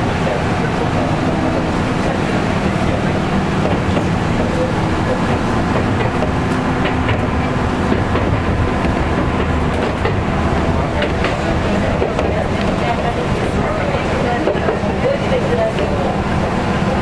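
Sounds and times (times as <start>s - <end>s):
train rumbling on tracks: 0.0s - 17.0s.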